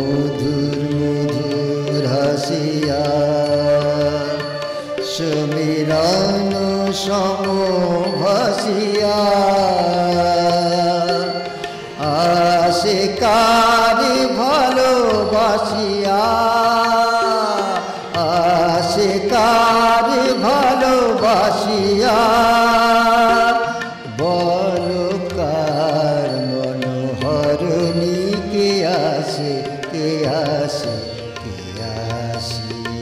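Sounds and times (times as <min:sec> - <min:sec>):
man singing through loudspeakers: 0:00.0 - 0:33.0.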